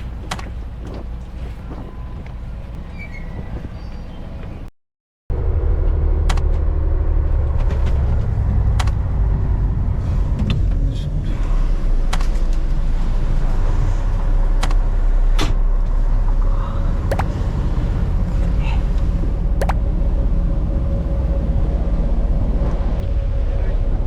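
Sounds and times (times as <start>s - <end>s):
boat engine rumbling: 0.0s - 4.7s, 5.3s - 24.0s.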